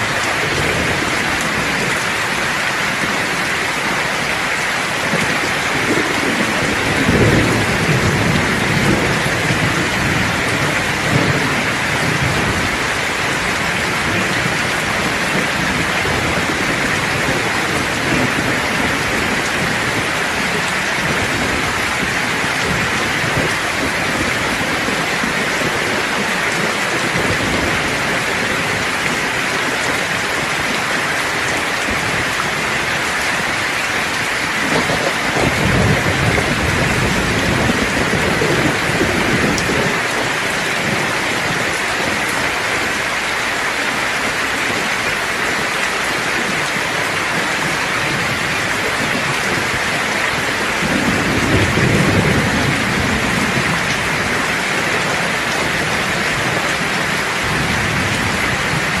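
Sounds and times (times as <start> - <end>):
steady rain: 0.0 - 59.0
low rolling thunder: 5.0 - 43.2, 44.7 - 59.0.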